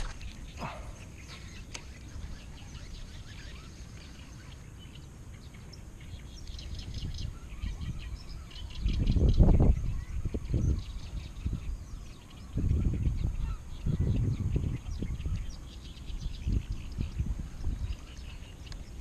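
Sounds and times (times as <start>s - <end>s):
small birds chirping: 0.0s - 19.0s
steady low outdoor rumble: 0.0s - 19.0s.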